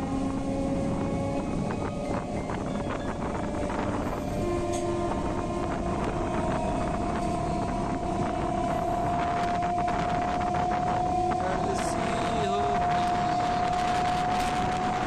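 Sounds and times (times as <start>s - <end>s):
train rumble and rattle: 0.0s - 15.0s
train whine: 0.0s - 15.0s
wind buffeting microphone: 0.0s - 15.0s.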